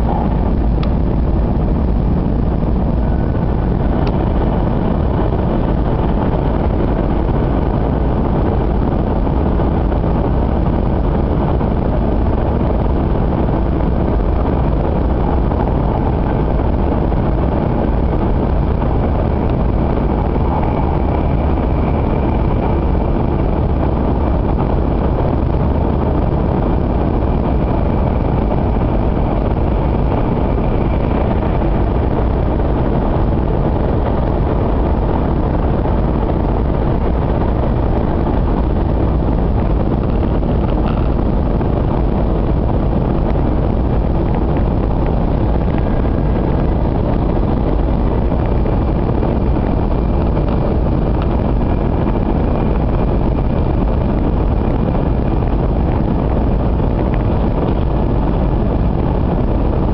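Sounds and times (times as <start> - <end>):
faint high whine: 0.0 - 59.9
train cabin rumble: 0.0 - 59.9.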